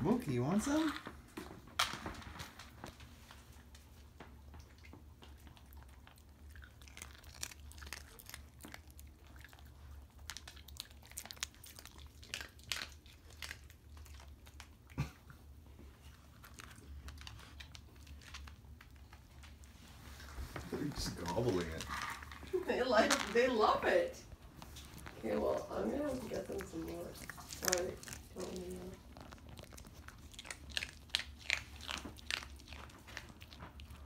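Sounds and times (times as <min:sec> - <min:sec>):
dog chewing food: 0:00.1 - 0:34.0.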